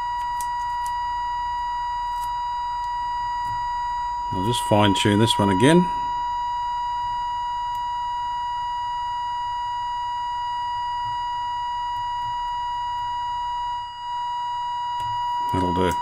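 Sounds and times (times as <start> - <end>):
steady test tone from radio loudspeaker: 0.0 - 16.0.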